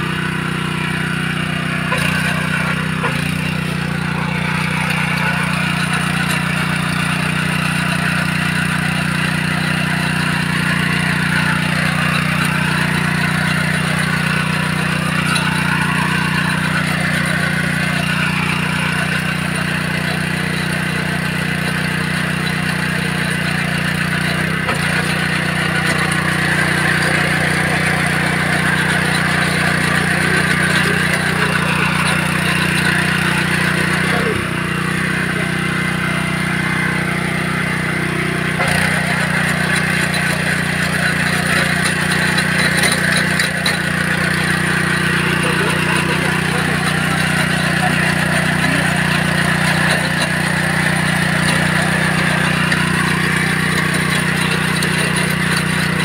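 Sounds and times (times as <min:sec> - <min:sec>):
tiller engine droning: 0:00.0 - 0:56.0.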